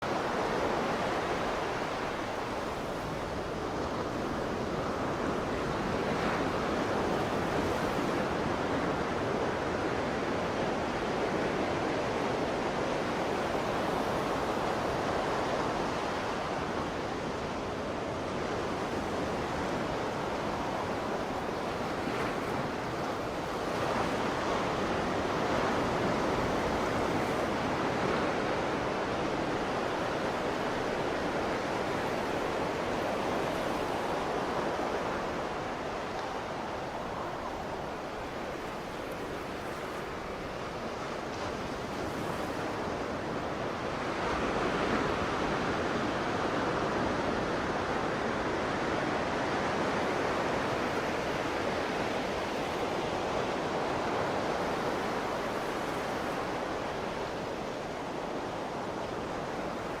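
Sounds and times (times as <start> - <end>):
ocean waves breaking: 0.0 - 60.0
wind: 0.0 - 60.0.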